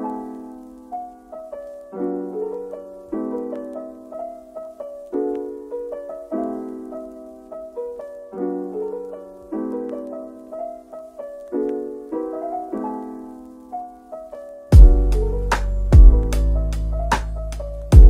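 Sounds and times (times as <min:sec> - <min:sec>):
soft piano playing slow chords: 0:00.0 - 0:18.0.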